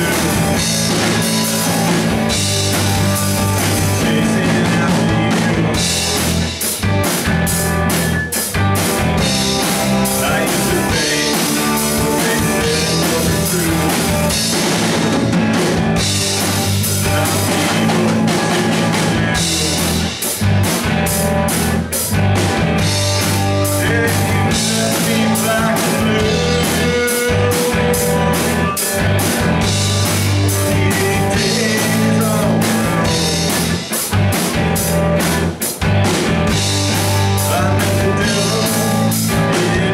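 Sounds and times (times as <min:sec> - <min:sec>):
driving drum beat: 0:00.0 - 0:39.9
electric guitars: 0:00.0 - 0:39.9.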